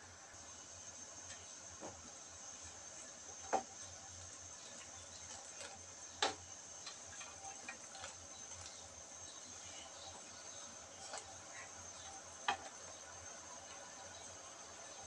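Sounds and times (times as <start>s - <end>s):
faint hiss of simmering broth: 0.0s - 15.0s.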